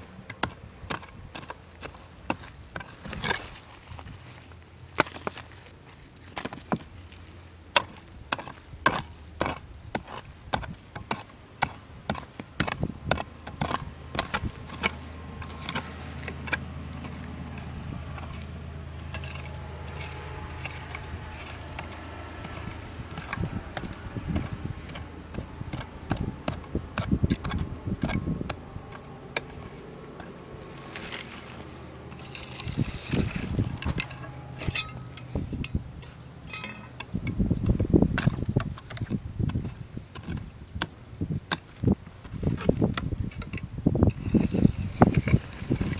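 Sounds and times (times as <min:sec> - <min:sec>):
scraping and low thuds: 0:07.8 - 0:45.9.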